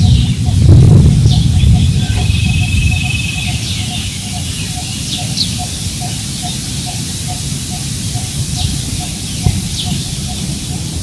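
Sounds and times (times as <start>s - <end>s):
birds chirping: 0.0s - 11.0s
wind buffeting microphone: 0.0s - 11.0s.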